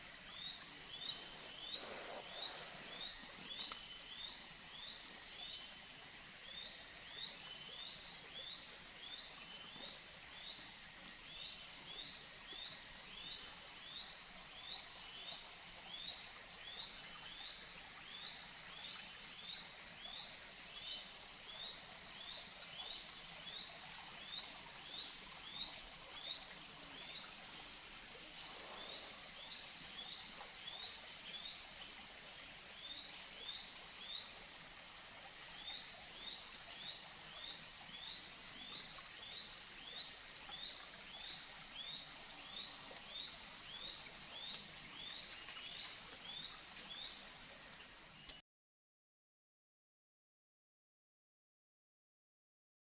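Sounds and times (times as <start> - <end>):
insects droning: 0.0 - 48.4.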